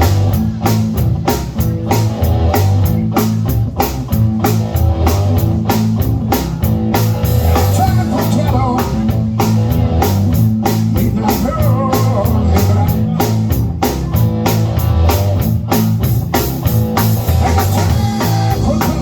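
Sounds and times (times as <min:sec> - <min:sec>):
bass line: 0:00.0 - 0:19.0
blues band playing: 0:00.0 - 0:19.0
drum kit: 0:00.0 - 0:19.0
guitar: 0:00.0 - 0:19.0
lead guitar with bent notes: 0:00.0 - 0:19.0.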